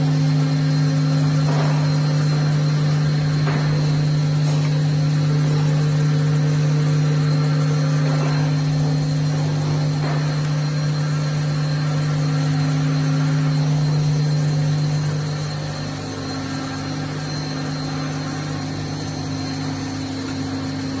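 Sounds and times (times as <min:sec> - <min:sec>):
machinery hum with high whine: 0:00.0 - 0:21.0.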